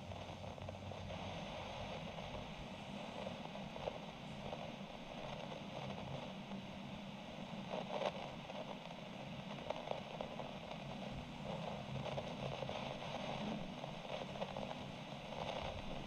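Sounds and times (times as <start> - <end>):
faint crackles: 0.0 - 16.0
steady room hiss: 0.0 - 16.0.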